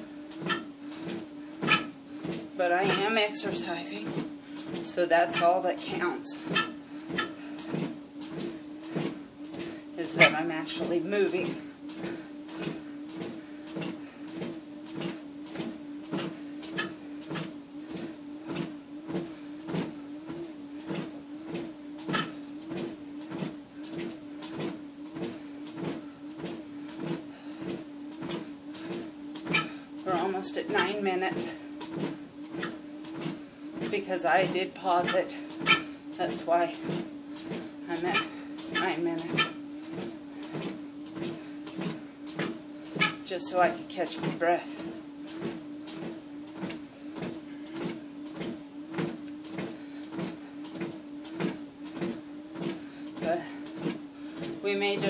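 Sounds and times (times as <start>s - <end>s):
footfalls on treadmill belt: 0.0s - 55.0s
treadmill motor whine: 0.0s - 55.0s.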